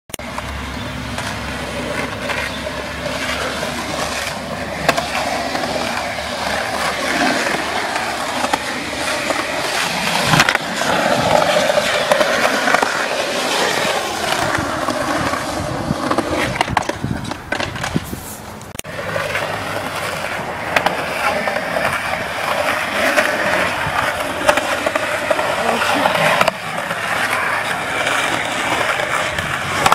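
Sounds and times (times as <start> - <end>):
skateboard wheels rolling on concrete: 0.1 - 29.9
skateboard clacking on ground: 0.2 - 29.9.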